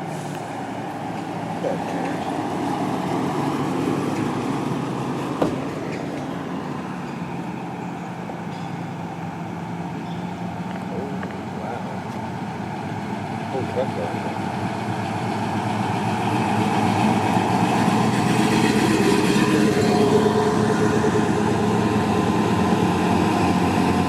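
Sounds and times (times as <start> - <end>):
vehicle engine running: 0.0 - 6.6, 7.2 - 24.0.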